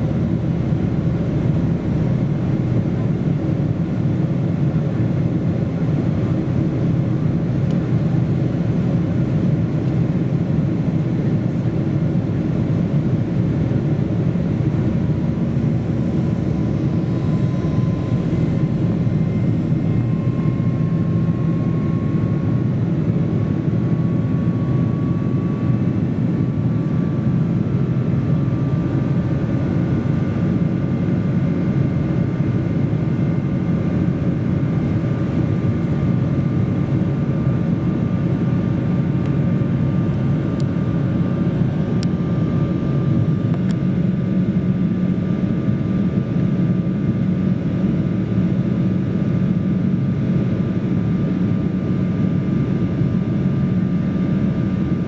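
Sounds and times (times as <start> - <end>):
airplane cabin engine roar: 0.0 - 55.0
faint engine whine: 0.0 - 55.0.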